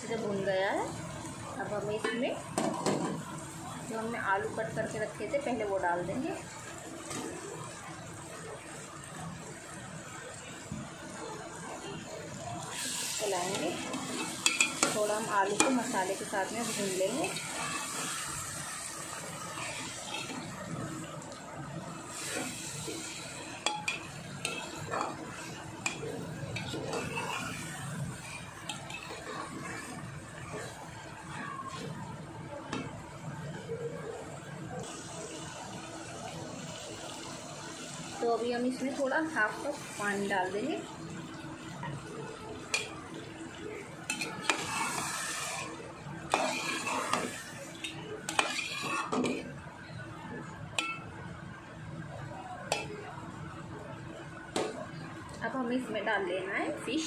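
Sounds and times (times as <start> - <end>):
food sizzling in a pot: 0.0 - 57.0.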